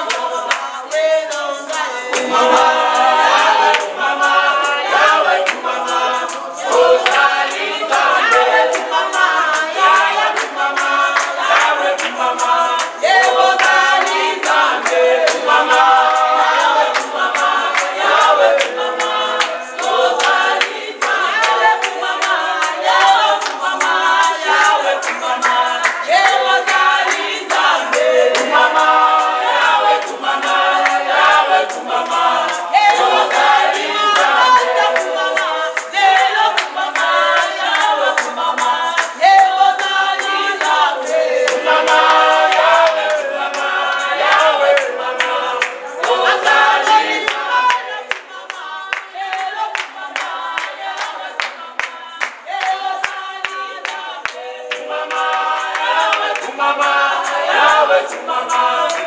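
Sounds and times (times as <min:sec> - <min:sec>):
hand clapping in time: 0:00.0 - 0:59.0
women singing together: 0:00.0 - 0:59.0.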